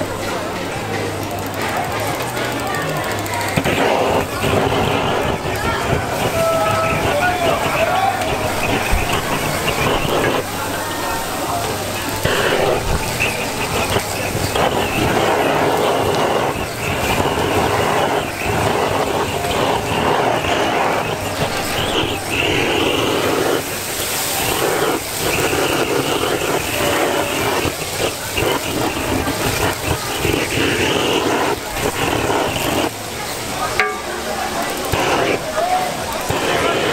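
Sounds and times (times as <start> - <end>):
blowtorch firing in blasts: 1.4 - 36.9
squid sizzling on a griddle: 1.6 - 36.9.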